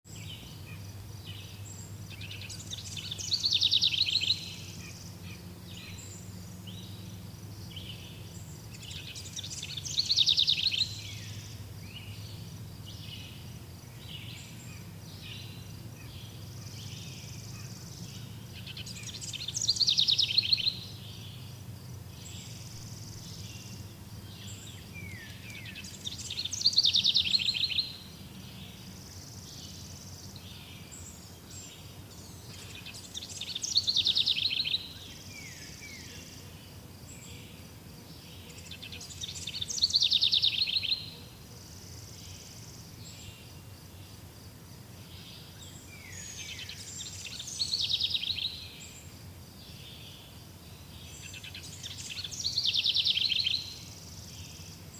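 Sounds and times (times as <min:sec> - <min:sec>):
birds chirping: 0:00.0 - 0:54.9
bird trilling song: 0:00.1 - 0:36.3, 0:38.4 - 0:41.2, 0:45.1 - 0:49.1, 0:50.9 - 0:54.7.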